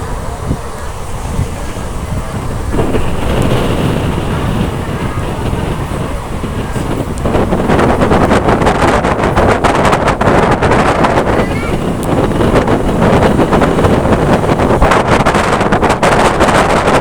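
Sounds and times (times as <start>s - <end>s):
rhythmic rail clatter: 0.0s - 17.0s
train wheels rumbling: 0.0s - 17.0s
wind on microphone: 0.0s - 17.0s.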